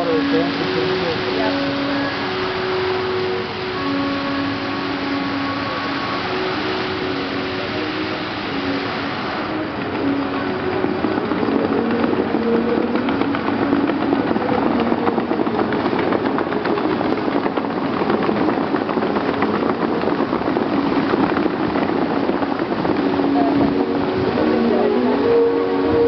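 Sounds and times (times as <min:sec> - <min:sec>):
faint music: 0:00.0 - 0:26.0
fountain water jets spraying: 0:00.0 - 0:26.0.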